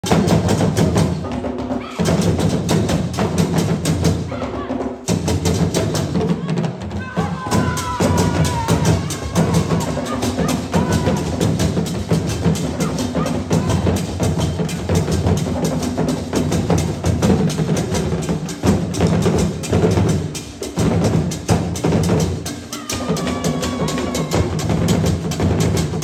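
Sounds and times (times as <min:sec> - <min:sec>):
hand drums beating fast rhythm: 0:00.0 - 0:26.0.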